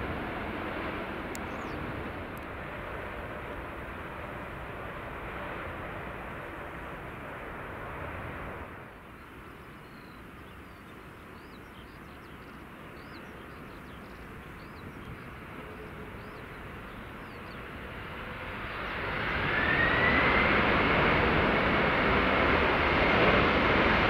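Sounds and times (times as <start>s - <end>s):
distant jet rumble: 0.0s - 24.0s
rising jet engine whine: 0.0s - 24.0s.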